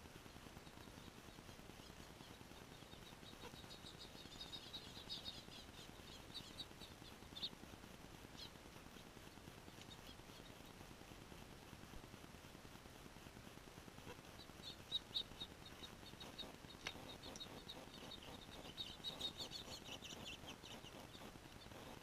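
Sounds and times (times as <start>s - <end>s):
small birds chirping: 0.0s - 11.2s, 13.9s - 22.0s.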